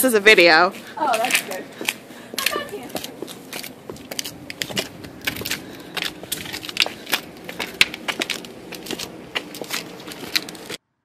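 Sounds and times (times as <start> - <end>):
footsteps on stairs: 0.4 - 10.8.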